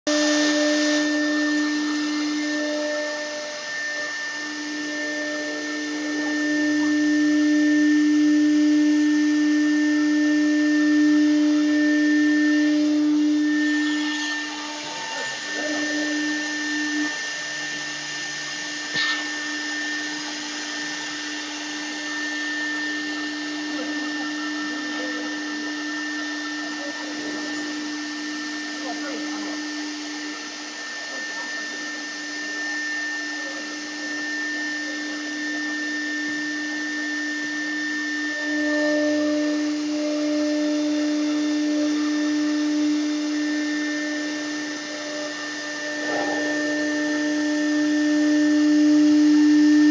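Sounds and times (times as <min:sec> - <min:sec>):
router spindle whine cutting board: 0:00.1 - 0:49.9.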